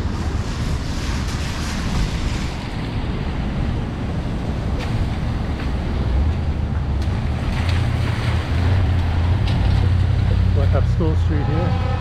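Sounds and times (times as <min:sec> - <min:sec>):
low engine rumble: 0:00.0 - 0:12.0
tyres hissing on wet road: 0:00.0 - 0:12.0.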